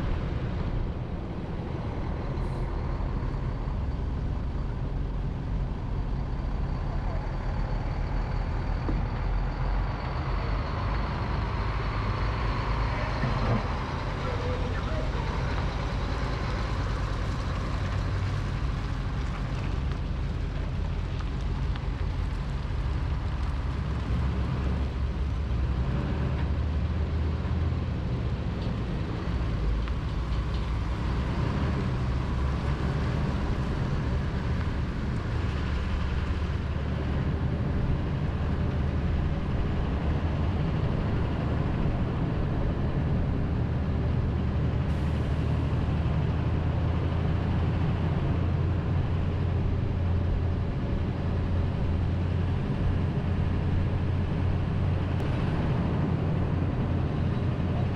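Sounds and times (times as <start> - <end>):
engine and road rumble: 0.0 - 57.9.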